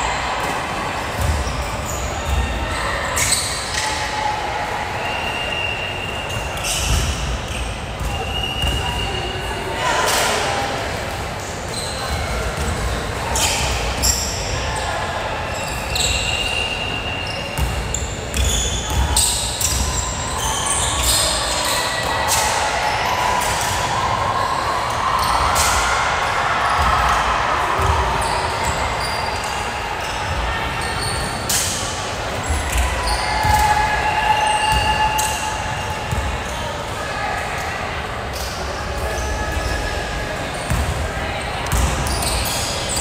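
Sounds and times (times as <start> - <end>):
voices echoing: 0.0 - 43.0.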